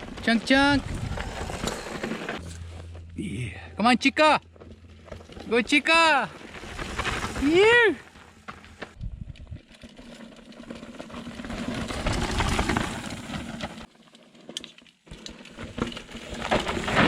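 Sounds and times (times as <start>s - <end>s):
bike rattling over rocks: 0.0s - 2.8s, 4.5s - 17.0s
bike tyres rumbling: 0.0s - 13.9s, 15.0s - 17.0s.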